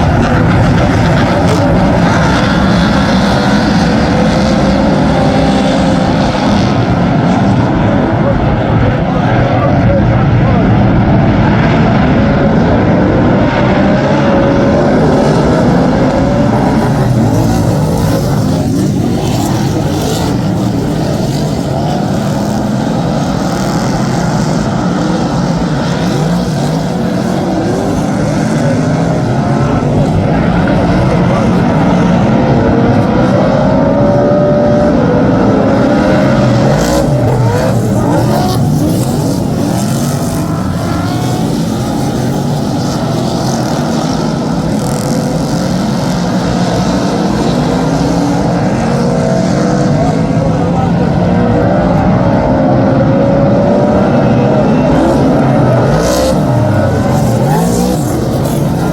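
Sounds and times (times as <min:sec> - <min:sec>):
race car engines revving and passing: 0:00.0 - 0:58.9.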